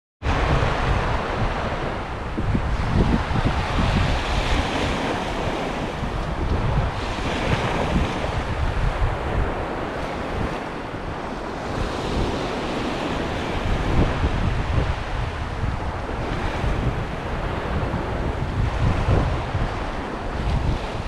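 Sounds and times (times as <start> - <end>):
sea waves breaking on a beach: 0.2 - 21.0
wind buffeting the microphone: 0.2 - 21.0.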